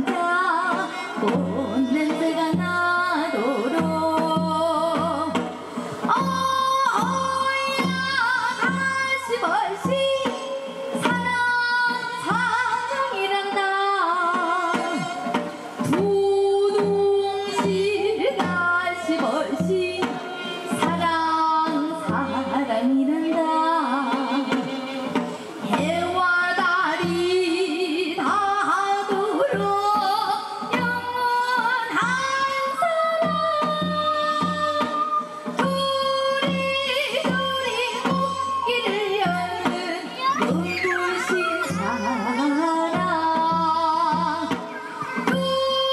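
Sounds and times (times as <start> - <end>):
instrumental accompaniment: 0.0 - 45.9
steady drum beat: 0.0 - 45.9
woman singing with vibrato: 0.0 - 45.9.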